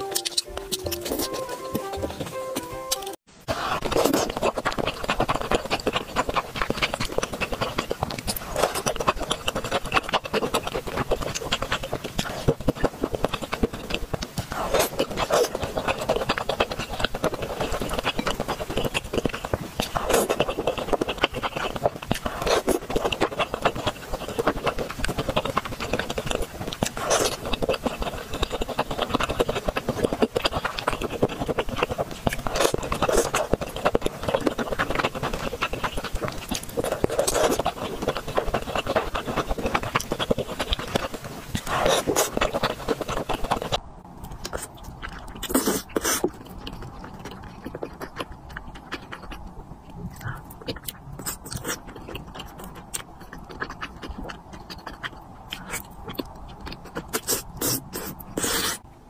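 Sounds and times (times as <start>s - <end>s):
chewing with wet mouth clicks: 0.0s - 2.4s, 3.6s - 58.9s.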